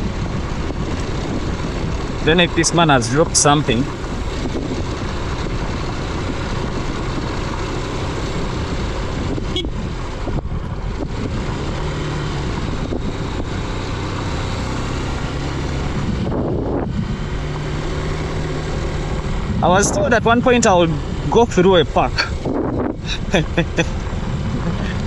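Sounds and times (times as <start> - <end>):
motorcycle engine running: 0.0 - 25.0
wind and road noise: 0.0 - 25.0.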